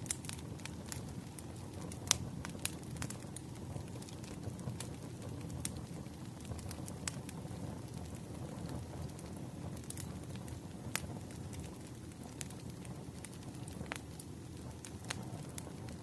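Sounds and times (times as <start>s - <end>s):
firewood popping and crackling: 0.0s - 16.0s
low rumble of flames: 0.0s - 16.0s.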